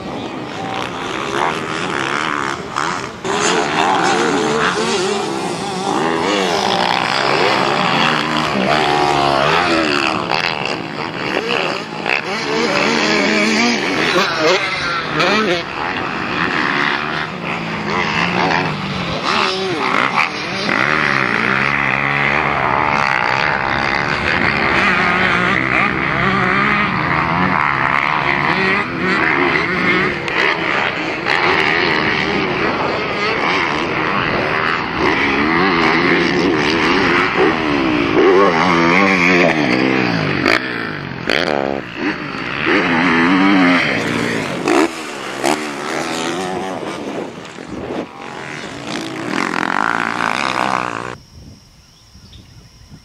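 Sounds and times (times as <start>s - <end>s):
motocross bike engine: 0.0s - 53.0s.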